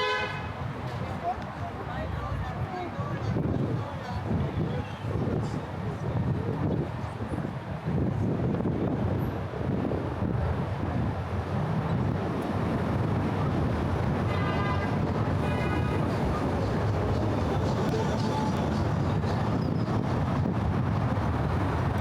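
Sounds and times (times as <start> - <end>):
traffic rumble: 0.0 - 22.0
wind on microphone: 0.0 - 22.0.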